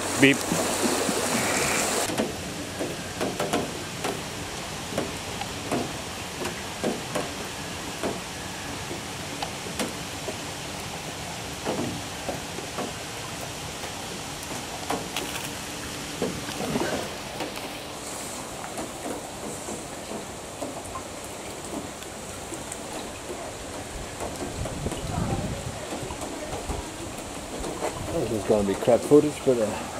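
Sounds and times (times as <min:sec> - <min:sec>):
rain hiss: 0:00.0 - 0:29.9
running water rushing: 0:00.0 - 0:29.9.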